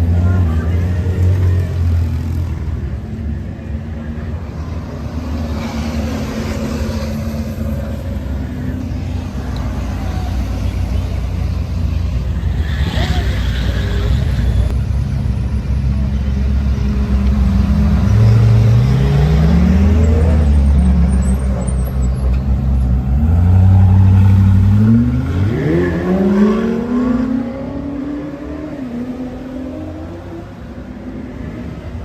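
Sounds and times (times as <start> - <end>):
car engines accelerating: 0.0 - 32.0.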